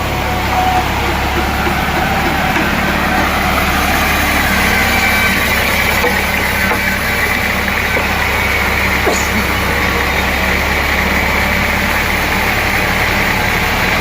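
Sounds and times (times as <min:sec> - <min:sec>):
sawmill machinery running: 0:00.0 - 0:14.0.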